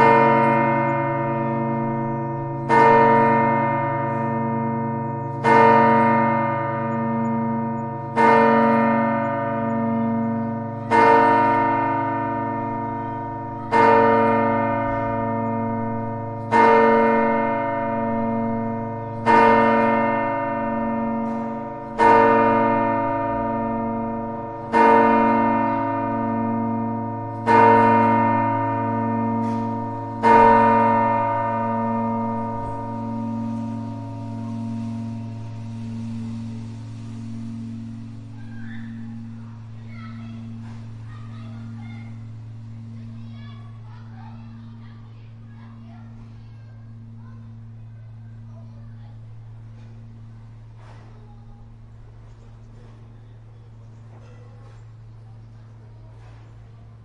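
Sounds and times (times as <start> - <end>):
church bell tolling: 0.0 - 57.0.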